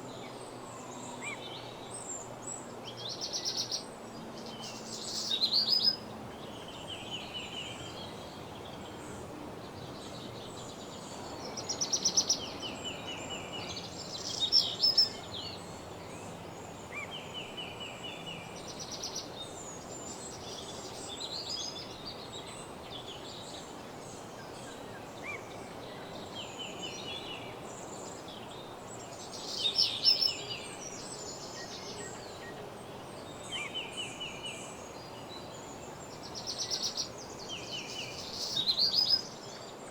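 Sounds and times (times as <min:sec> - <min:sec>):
low background hiss: 0:00.0 - 0:39.9
songbirds singing: 0:00.0 - 0:39.9.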